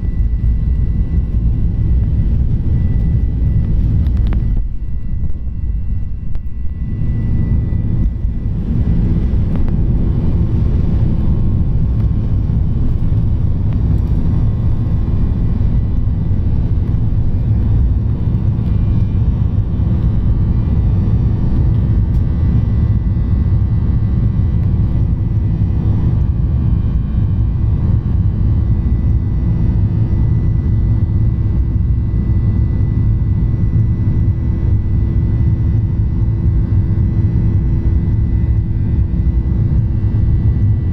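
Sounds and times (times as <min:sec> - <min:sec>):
airliner engines rumbling: 0:00.0 - 0:40.9
faint steady hum: 0:00.0 - 0:40.9.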